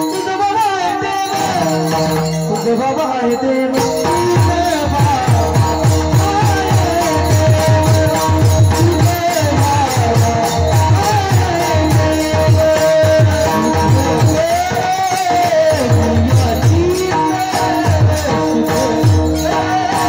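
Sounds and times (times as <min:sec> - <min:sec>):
cymbals jingling: 0:00.0 - 0:20.0
rapid drum strokes: 0:03.8 - 0:20.0.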